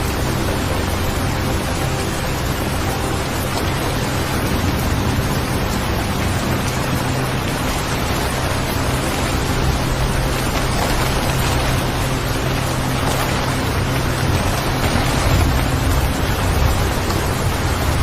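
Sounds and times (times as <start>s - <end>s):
falling rain hiss: 0.0s - 18.0s
low steady drone: 0.0s - 18.0s.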